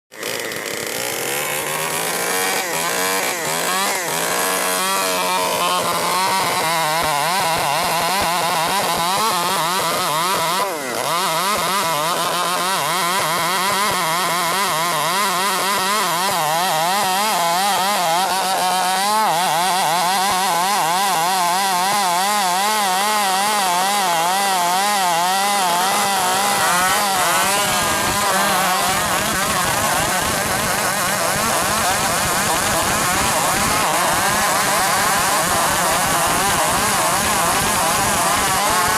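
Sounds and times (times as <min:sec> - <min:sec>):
chainsaw sawing through timber: 0:00.1 - 0:38.9.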